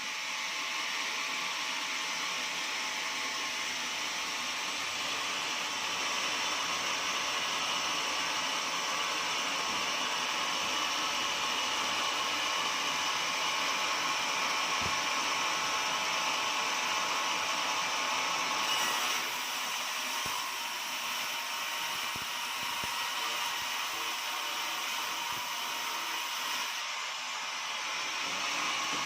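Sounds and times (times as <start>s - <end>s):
sawmill whining sawing log: 0.0s - 29.0s.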